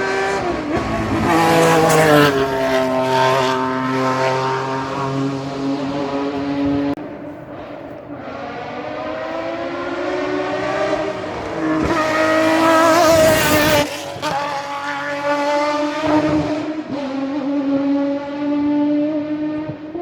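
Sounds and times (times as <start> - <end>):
racing car accelerating past: 0.0 - 20.0.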